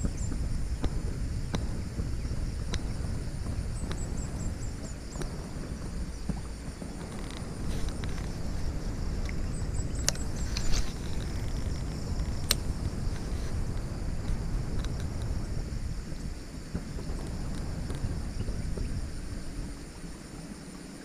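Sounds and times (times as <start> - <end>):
high insect buzz: 0.0 - 21.0
wind rumbling on microphone: 0.0 - 21.0.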